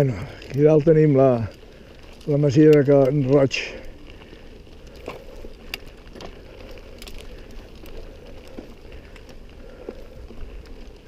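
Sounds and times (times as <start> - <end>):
bike clicks and rattles: 0.0 - 11.0
tyres crunching over dirt: 0.0 - 11.0.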